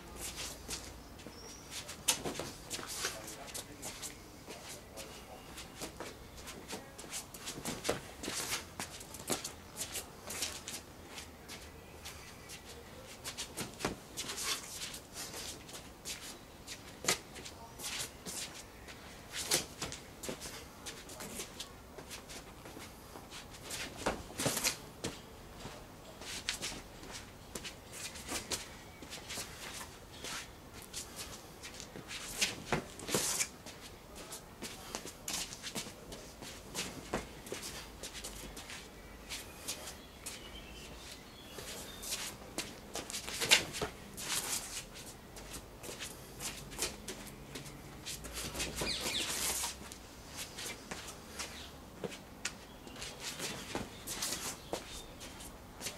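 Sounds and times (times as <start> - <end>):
footwork scuffs on paving: 0.0 - 55.9.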